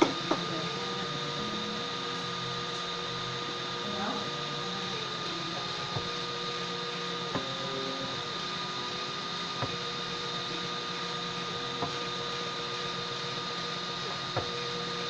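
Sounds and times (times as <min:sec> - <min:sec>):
printer hiss and hum: 0:00.0 - 0:15.0
stepper motors whining: 0:00.0 - 0:15.0.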